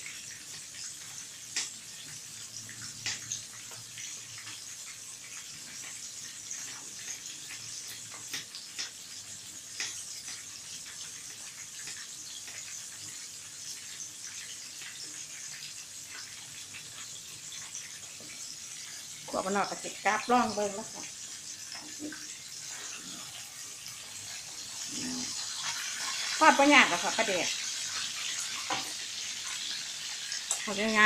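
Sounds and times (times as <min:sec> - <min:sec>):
oil popping and crackling: 0:00.0 - 0:31.0
oil sizzling and bubbling: 0:00.0 - 0:31.0.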